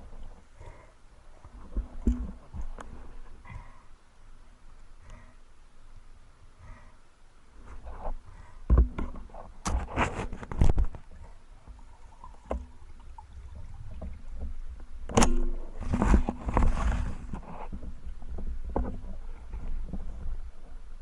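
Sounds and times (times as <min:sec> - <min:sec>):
water splashing and sloshing: 0:00.0 - 0:03.9, 0:07.8 - 0:21.0.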